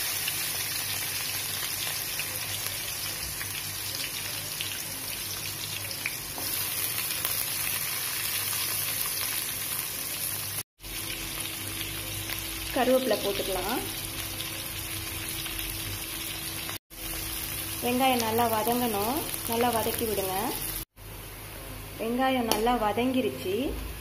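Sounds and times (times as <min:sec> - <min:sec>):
shallots sizzling in hot oil: 0:00.0 - 0:21.3.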